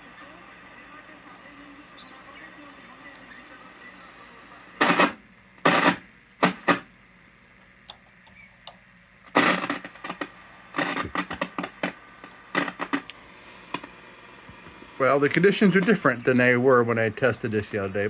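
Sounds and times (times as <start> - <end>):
radio receiver hissing: 0.0 - 18.0
static crackles: 0.0 - 18.0.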